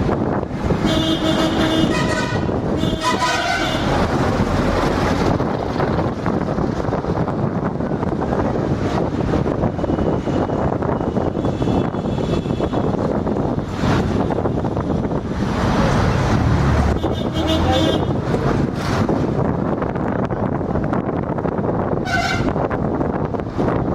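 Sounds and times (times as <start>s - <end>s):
bus rumbling alongside: 0.0s - 23.9s
vehicle road and engine noise: 0.0s - 23.9s
wind rushing over microphone: 0.0s - 23.9s.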